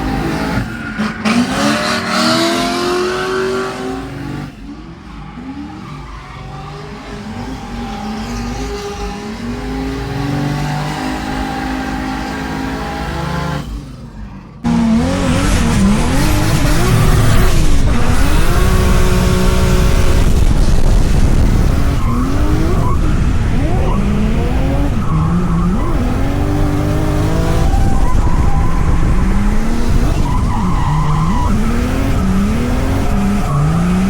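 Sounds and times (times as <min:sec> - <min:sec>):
tire squeal: 0:00.0 - 0:10.0, 0:15.0 - 0:34.0
car engine revving: 0:00.0 - 0:34.0.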